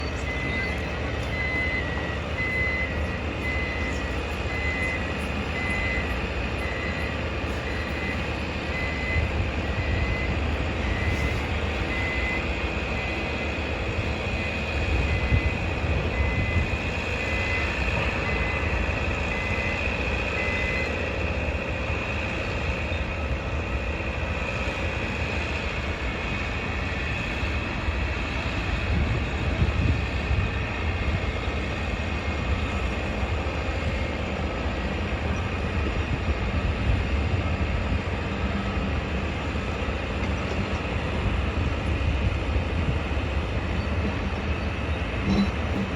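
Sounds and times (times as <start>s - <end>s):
reversing alarm beeping: 0.0s - 36.2s, 37.0s - 45.9s
heavy machinery rumbling: 0.0s - 45.9s.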